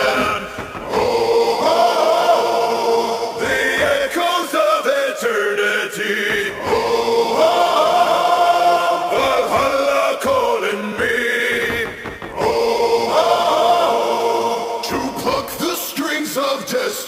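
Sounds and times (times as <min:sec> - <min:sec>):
choir chanting held notes: 0:00.0 - 0:17.0.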